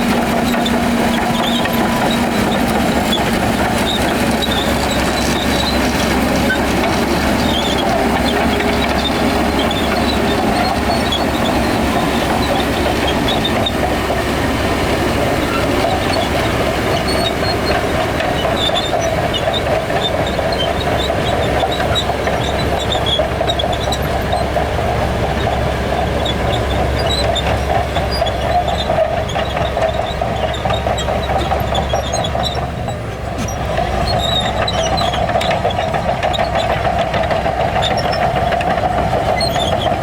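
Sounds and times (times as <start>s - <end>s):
heavy diesel machinery rumbling: 0.0s - 40.0s.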